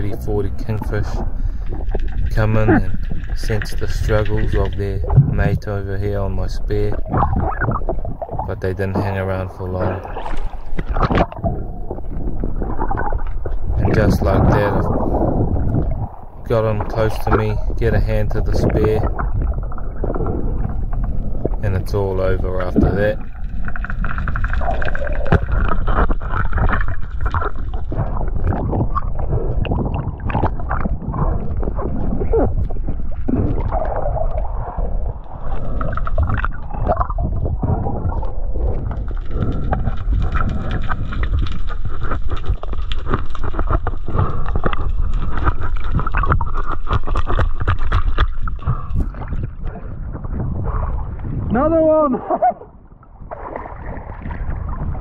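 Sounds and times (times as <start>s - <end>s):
heavy muffled rumble: 0.0s - 46.6s, 48.5s - 53.4s
underwater bubbling and gurgling: 0.0s - 55.0s.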